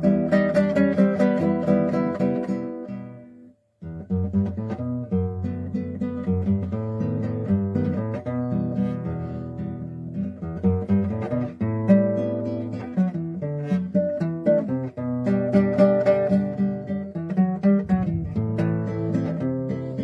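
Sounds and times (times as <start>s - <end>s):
acoustic guitar melody: 0.0s - 20.0s.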